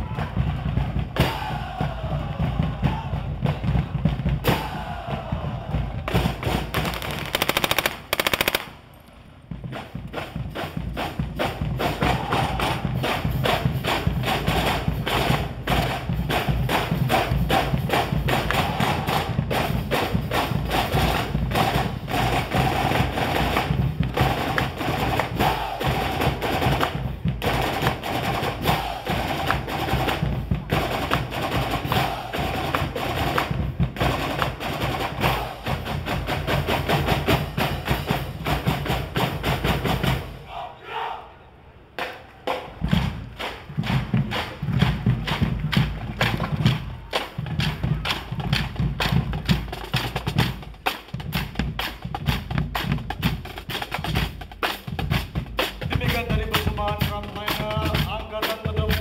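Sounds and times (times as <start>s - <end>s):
military drum corps playing: 0.0s - 41.2s, 42.0s - 59.0s.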